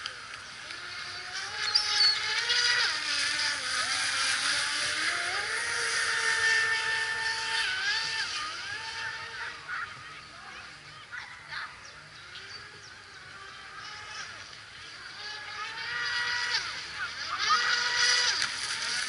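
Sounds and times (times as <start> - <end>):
electric motor whining: 0.0 - 10.8, 12.2 - 19.0.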